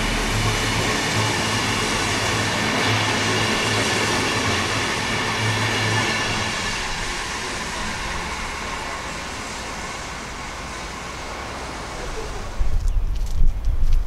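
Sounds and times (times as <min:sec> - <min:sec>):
train carriages rumbling on rails: 0:00.0 - 0:14.0.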